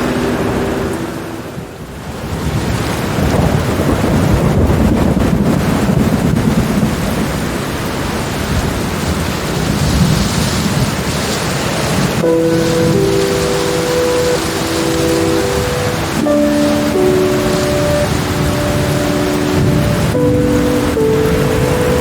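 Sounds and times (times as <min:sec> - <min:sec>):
rolling thunder: 0:00.0 - 0:22.0
steady rain: 0:00.0 - 0:22.0.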